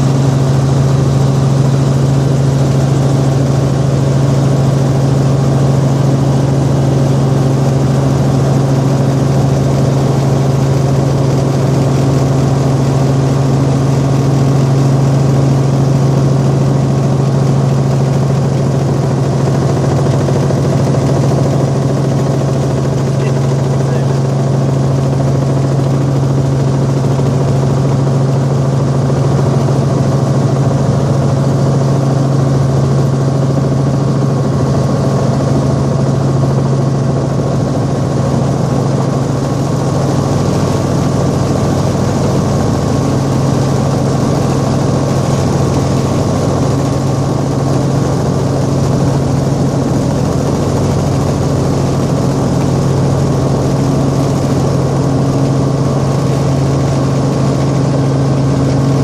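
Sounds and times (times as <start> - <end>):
helicopter engine and rotors: 0.0 - 59.0.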